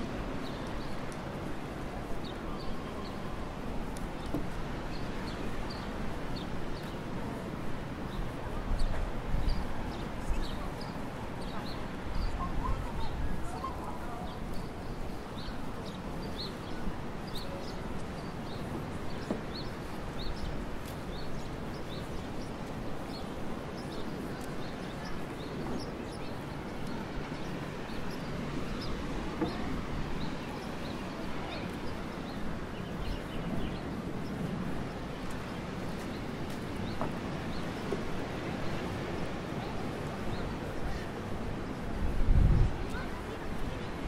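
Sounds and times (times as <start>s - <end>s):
wind: 0.0s - 44.0s
small birds chirping: 0.2s - 44.0s.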